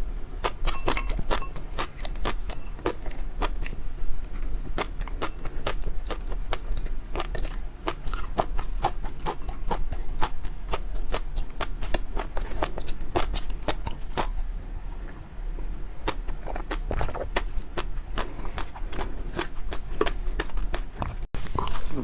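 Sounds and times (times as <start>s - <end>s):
person chewing: 0.4s - 14.4s, 16.0s - 22.0s.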